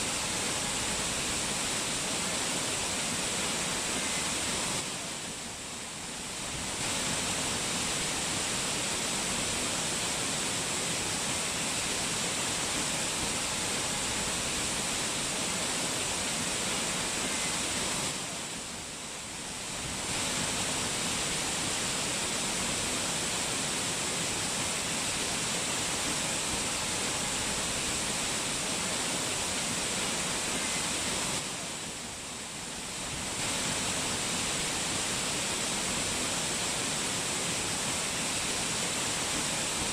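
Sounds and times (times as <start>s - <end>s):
rushing mountain water: 0.0s - 39.9s.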